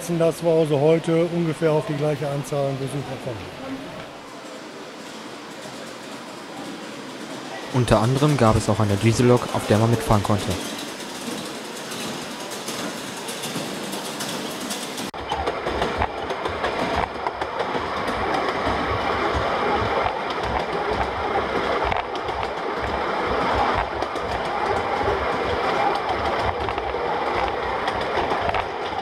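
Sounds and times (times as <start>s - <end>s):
train running rumble: 0.0s - 29.0s
wheels clattering over rail joints: 0.0s - 29.0s.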